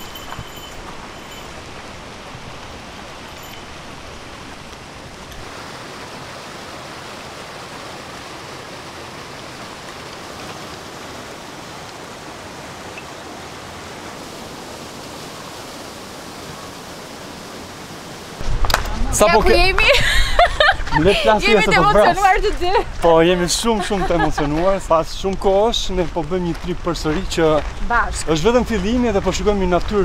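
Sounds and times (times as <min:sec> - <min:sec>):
flowing water rushing: 0:00.0 - 0:28.4.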